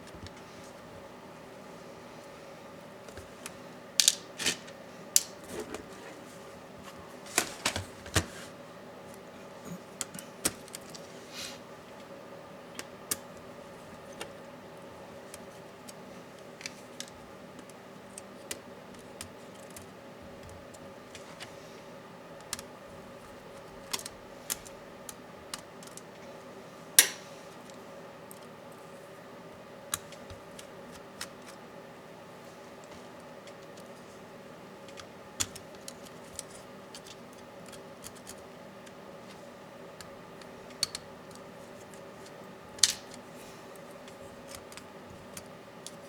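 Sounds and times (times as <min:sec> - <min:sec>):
faint hum: 0:00.0 - 0:46.0.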